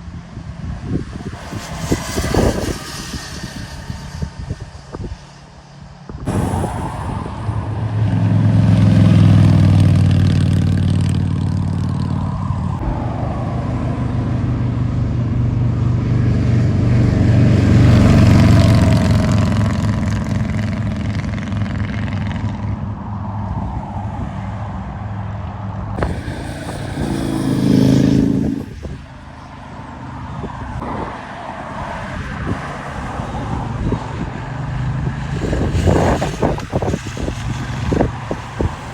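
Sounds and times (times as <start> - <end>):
motorcycles passing: 0.0 - 23.5, 26.0 - 38.9.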